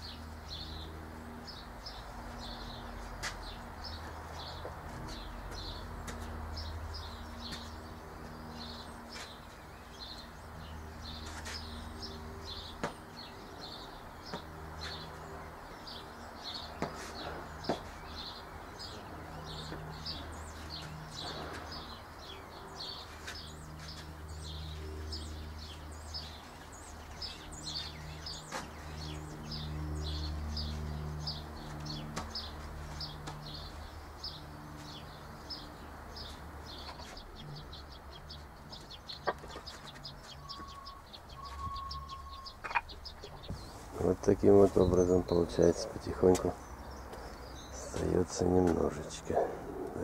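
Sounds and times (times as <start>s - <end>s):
songbird chirping: 0.0s - 50.0s.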